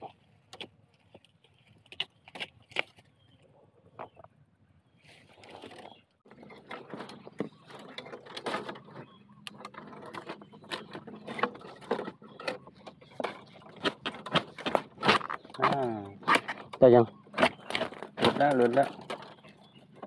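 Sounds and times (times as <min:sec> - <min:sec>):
dry leaves and twigs crackling: 0:00.0 - 0:04.2, 0:05.0 - 0:20.0.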